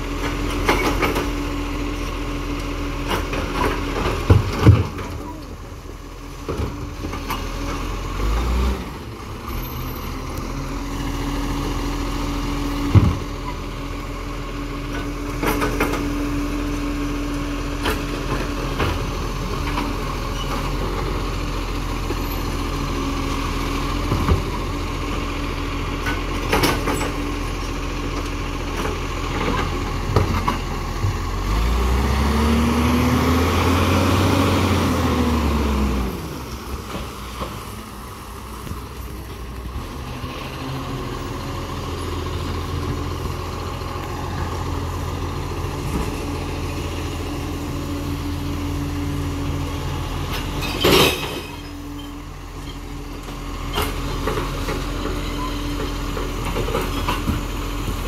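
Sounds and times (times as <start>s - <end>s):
diesel truck engine: 0.0s - 58.0s.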